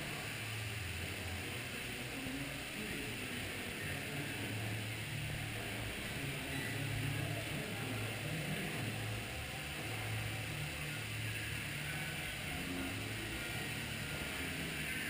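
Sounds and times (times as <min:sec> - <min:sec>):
low machinery hum: 0:00.0 - 0:15.0
water channel hiss: 0:00.0 - 0:15.0.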